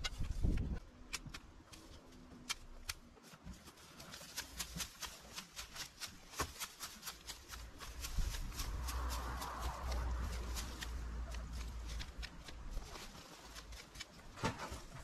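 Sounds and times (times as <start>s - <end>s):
garden tools snipping stems: 0.0s - 14.9s.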